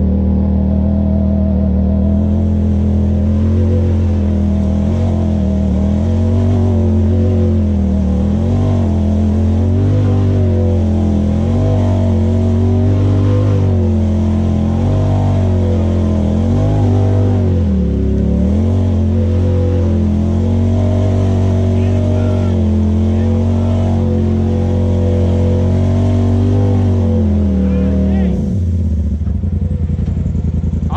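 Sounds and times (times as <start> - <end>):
engine revving under load: 0.0 - 30.9.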